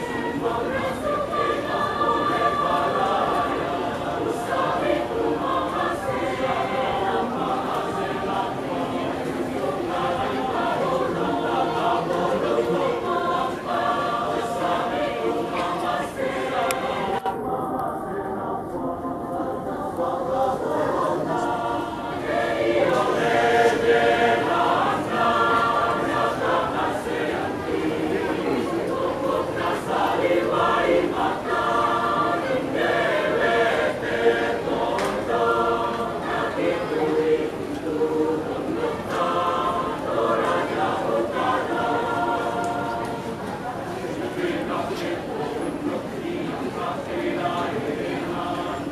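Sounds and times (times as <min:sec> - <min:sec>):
mixed choir singing in parts: 0:00.0 - 0:48.9.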